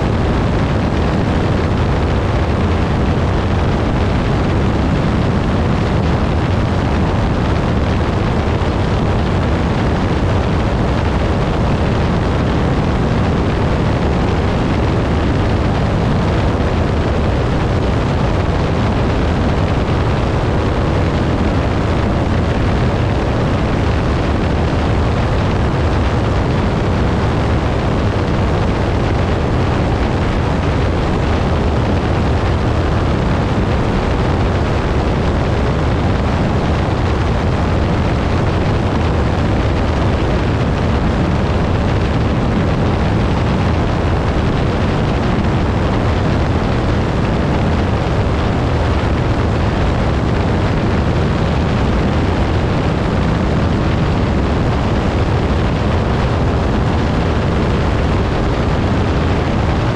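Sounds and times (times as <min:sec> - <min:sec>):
propeller plane engine drone: 0:00.0 - 0:59.9.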